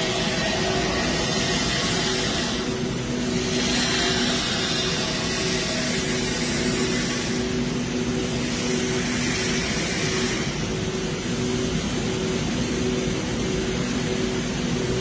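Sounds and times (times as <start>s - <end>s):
machine running: 0.0s - 15.0s.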